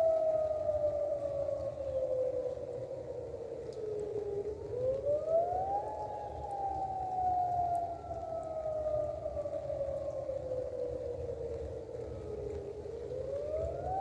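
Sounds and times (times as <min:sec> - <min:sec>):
warning siren wailing: 0:00.0 - 0:14.0.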